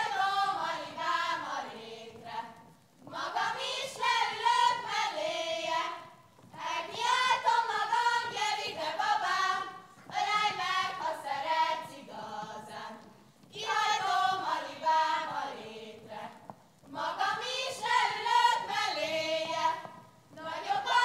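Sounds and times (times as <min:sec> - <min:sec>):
girls singing together: 0:00.0 - 0:21.0.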